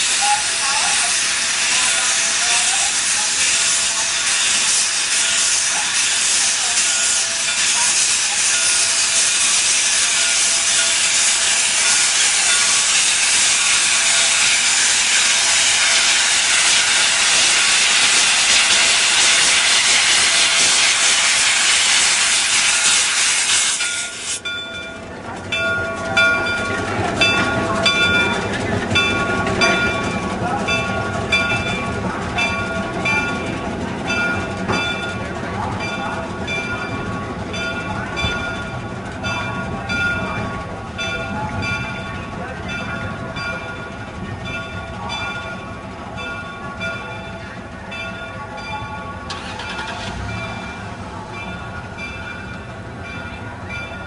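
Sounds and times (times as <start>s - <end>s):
locomotive rumbling and clanking: 0.0s - 54.0s
steam locomotive venting steam: 0.0s - 54.0s.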